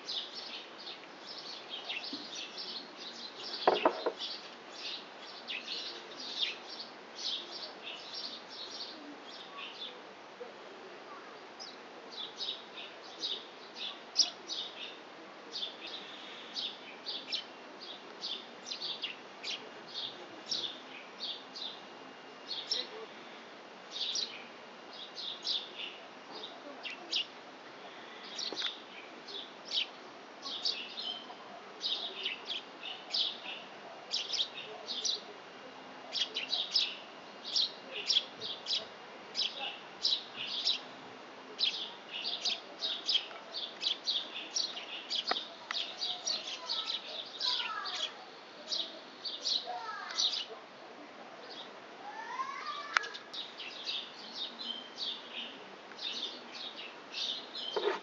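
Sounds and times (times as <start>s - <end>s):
songbirds twittering: 0.0s - 10.1s, 11.4s - 41.0s, 41.6s - 50.6s, 51.4s - 58.0s.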